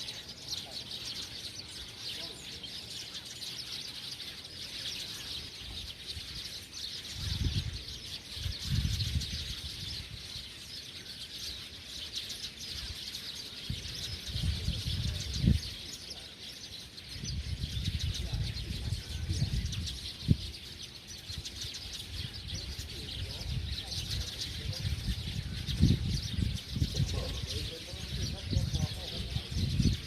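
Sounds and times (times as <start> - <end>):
birds chirping chorus: 0.0 - 30.0.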